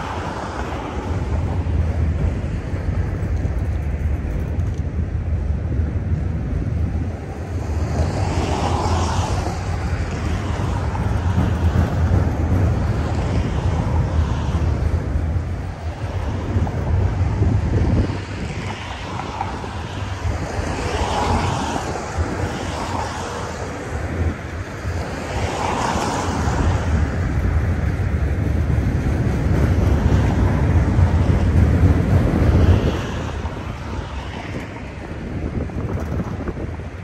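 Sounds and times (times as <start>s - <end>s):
train wheels rumbling on track: 0.0s - 37.0s
wind buffeting microphone: 0.0s - 37.0s.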